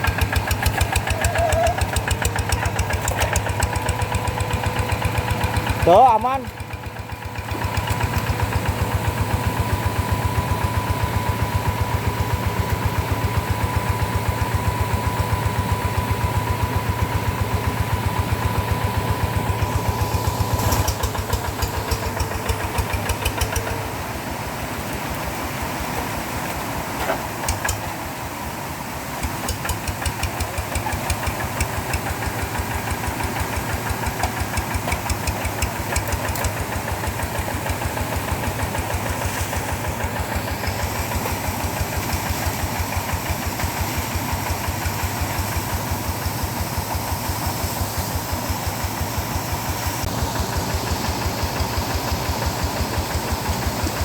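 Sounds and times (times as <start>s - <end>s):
tractor engine chugging: 0.0s - 54.0s.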